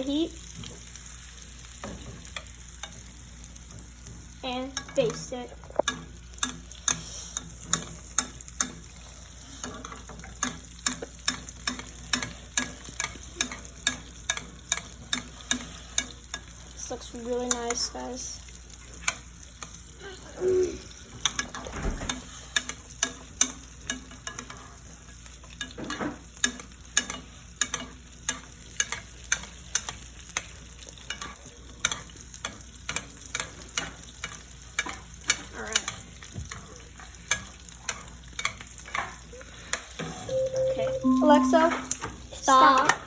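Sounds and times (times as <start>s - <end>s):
steak sizzling in butter: 0.0s - 40.2s.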